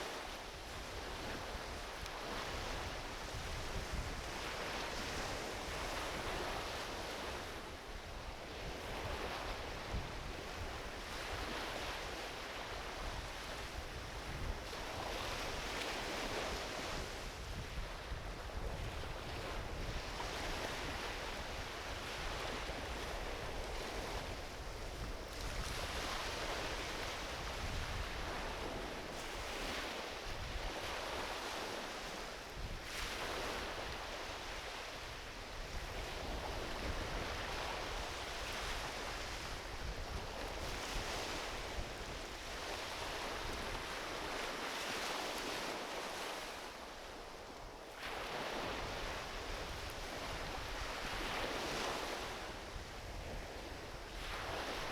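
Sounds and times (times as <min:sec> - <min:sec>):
small waves washing onto beach: 0:00.0 - 0:54.9
wind rumble on microphone: 0:00.0 - 0:54.9.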